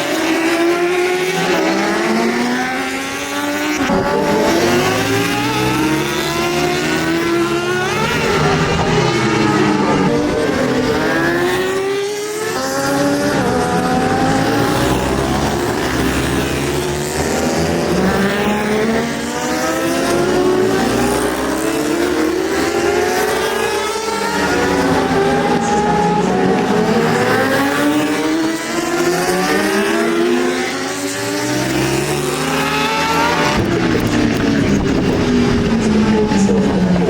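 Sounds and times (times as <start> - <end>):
racing motorbike engines revving: 0.0 - 37.0.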